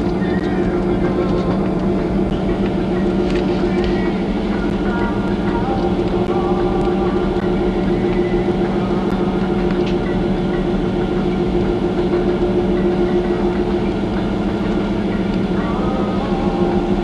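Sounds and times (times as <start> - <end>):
ship engine drone: 0.0 - 17.0.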